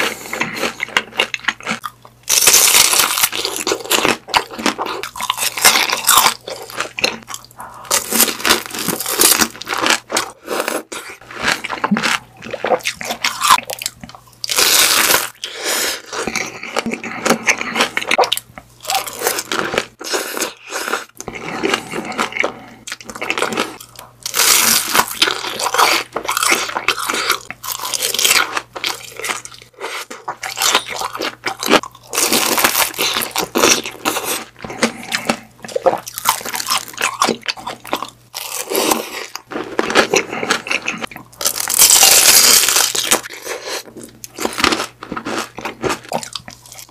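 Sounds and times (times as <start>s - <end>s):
crunching bites and chewing: 0.0s - 46.9s.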